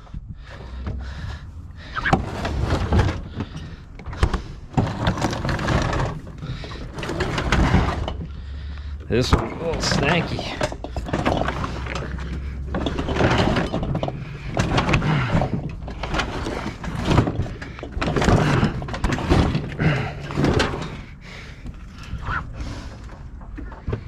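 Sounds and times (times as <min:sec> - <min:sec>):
scrap metal clanking and scraping: 0:00.5 - 0:24.0.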